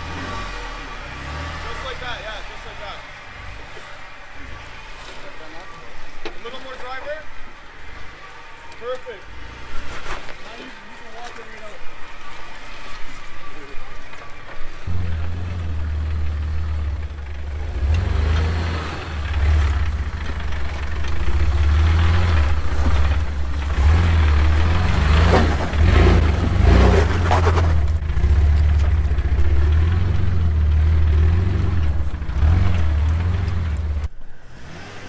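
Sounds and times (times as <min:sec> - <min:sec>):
engine rumbling while crawling: 0:00.0 - 0:35.0.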